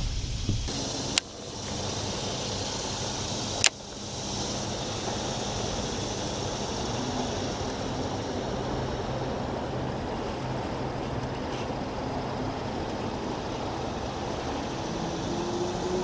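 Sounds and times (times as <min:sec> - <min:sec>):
boat motor running: 0:00.0 - 0:16.0
rushing wind: 0:00.0 - 0:16.0
water noise: 0:00.0 - 0:16.0.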